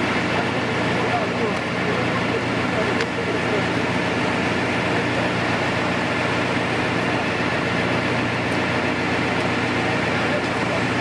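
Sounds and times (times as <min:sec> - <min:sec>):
construction machinery engine drone: 0:00.0 - 0:11.0.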